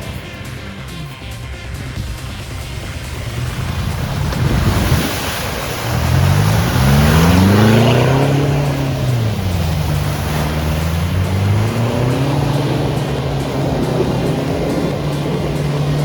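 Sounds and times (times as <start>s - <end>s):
continuous rushing noise: 0.0s - 16.0s
off-road vehicle engine revving: 0.0s - 16.0s.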